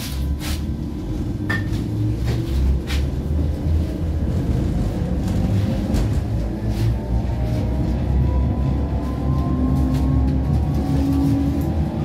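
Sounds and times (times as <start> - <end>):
tram rumbling on rails: 0.0 - 12.0.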